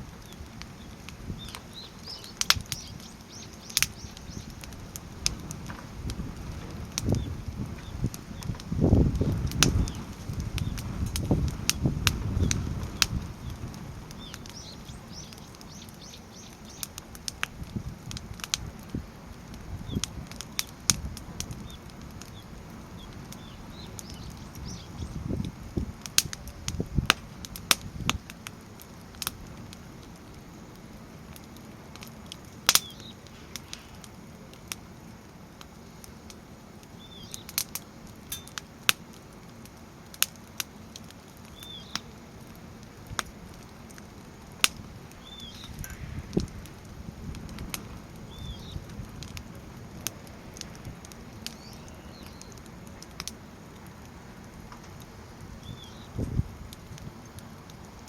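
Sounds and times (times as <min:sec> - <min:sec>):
firewood crackling and popping: 0:00.0 - 0:58.0
flames fluttering: 0:00.0 - 0:58.0.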